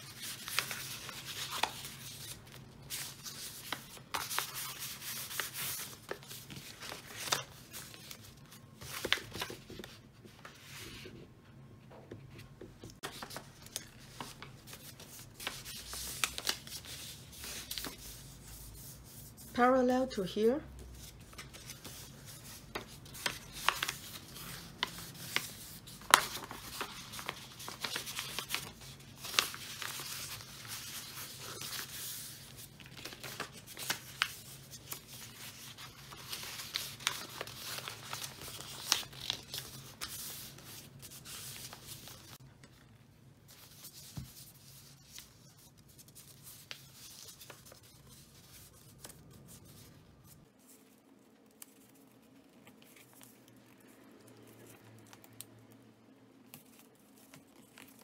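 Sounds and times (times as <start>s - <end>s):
wrapping paper rustling and crackling: 0.0s - 11.1s, 12.8s - 20.2s, 20.8s - 58.0s.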